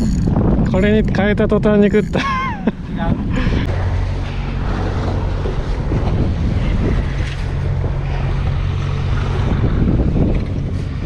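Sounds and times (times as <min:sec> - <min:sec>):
boat engine idling: 0:00.0 - 0:11.0
wind noise on microphone: 0:00.0 - 0:11.0.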